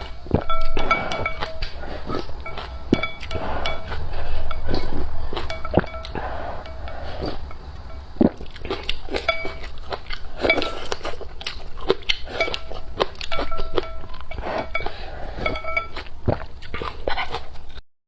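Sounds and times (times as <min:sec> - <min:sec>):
utensils clinking against bowl: 0:00.0 - 0:17.7
chewing and crunching: 0:00.0 - 0:17.8.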